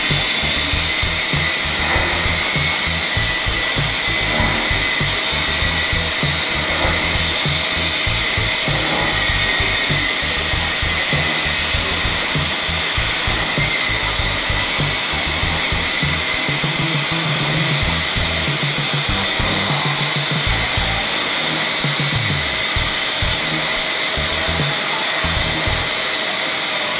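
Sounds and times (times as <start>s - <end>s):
milling machine hiss and whine: 0.0s - 26.9s.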